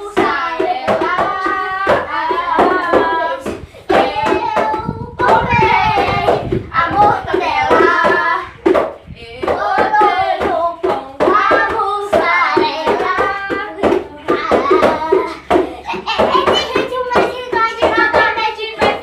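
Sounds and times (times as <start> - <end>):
boys singing: 0.0 - 19.0
hand drumming on plastic bucket: 0.0 - 19.0.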